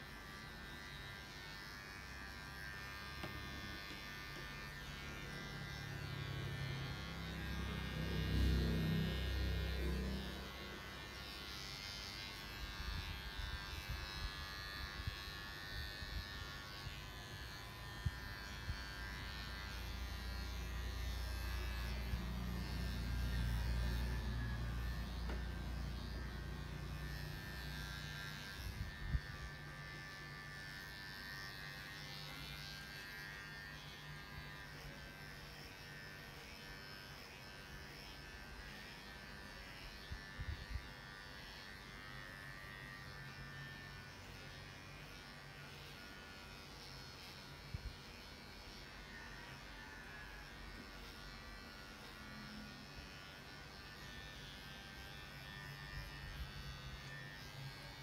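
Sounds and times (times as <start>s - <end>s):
electric clippers buzzing: 0.0s - 58.0s.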